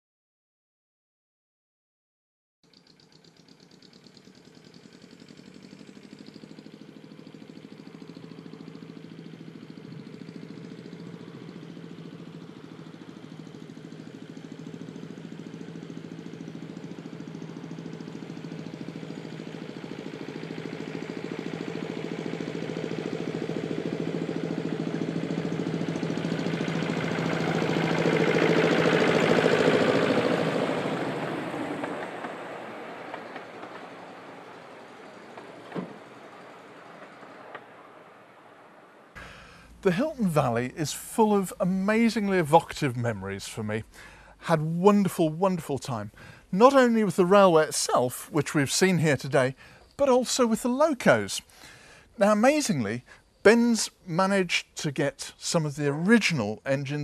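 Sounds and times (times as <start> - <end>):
miniature locomotive engine running: 2.7 - 37.8, 39.2 - 52.4.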